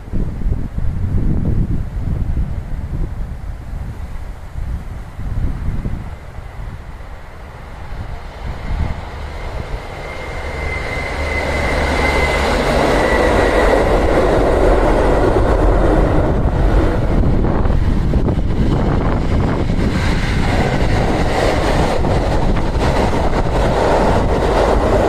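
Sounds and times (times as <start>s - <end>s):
train running past: 3.8s - 25.0s.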